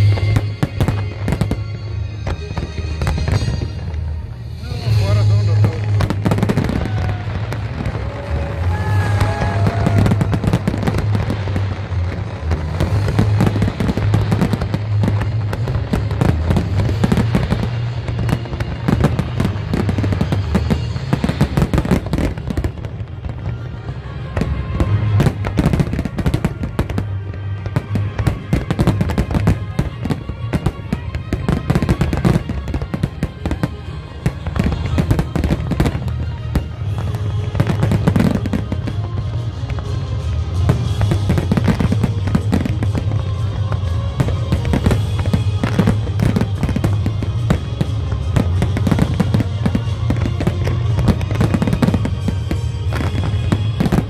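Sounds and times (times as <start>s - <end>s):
fireworks bangs and crackles: 0.0s - 54.0s
music playing: 0.0s - 54.0s.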